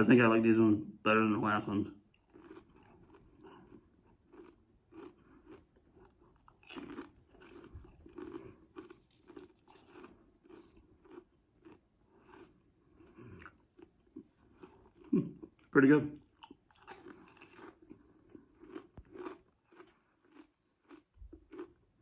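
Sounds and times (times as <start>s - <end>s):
person chewing crunchy snacks: 2.0s - 22.0s.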